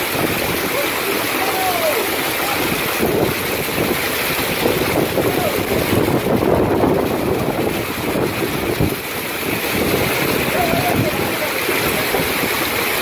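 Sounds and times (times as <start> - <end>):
heavy rain pelting pavement: 0.0 - 13.0
wind gusts buffeting microphone: 0.0 - 13.0.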